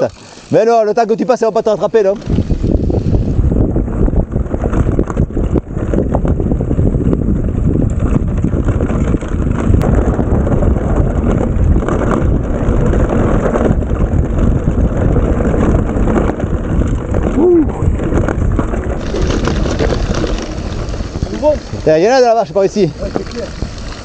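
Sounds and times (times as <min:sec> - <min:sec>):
bike frame rattling and knocking: 0:00.0 - 0:24.0
wind buffeting microphone: 0:00.0 - 0:24.0.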